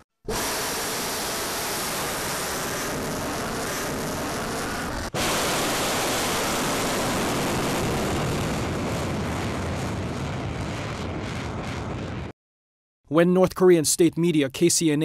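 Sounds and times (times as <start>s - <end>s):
rocket motor roaring: 0.3s - 12.3s.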